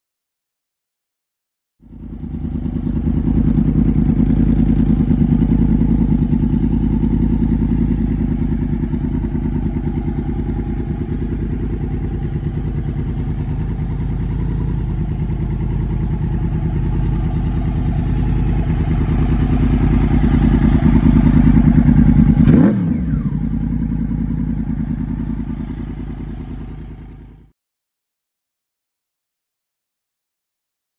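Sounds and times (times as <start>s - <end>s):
motorcycle engine idling: 1.8s - 27.5s.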